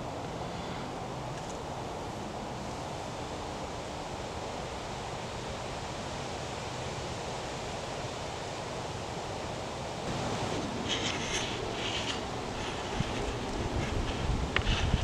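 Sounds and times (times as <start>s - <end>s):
wind rushing through trees: 0.0s - 15.0s.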